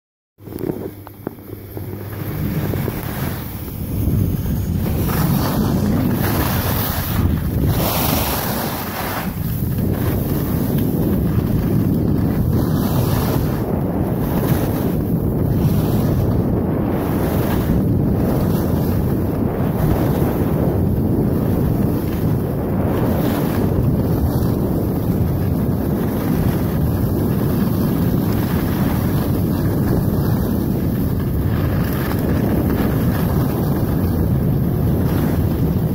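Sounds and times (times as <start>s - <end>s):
wind buffeting microphone: 0.4s - 35.9s.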